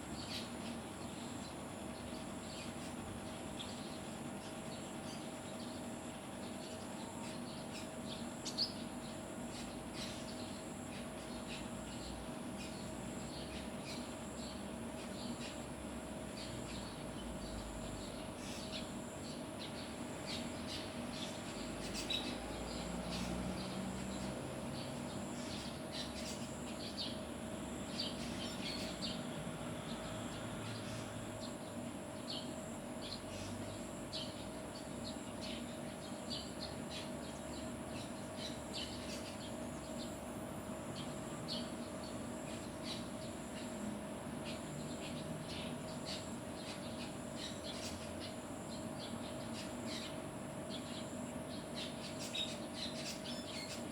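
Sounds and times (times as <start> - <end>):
birds chirping: 0.0 - 53.9
faint steady hum: 0.0 - 53.9.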